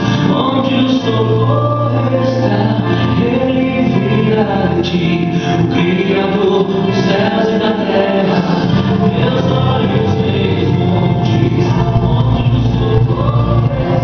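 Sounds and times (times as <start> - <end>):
gospel choir singing with instruments: 0.0 - 14.0.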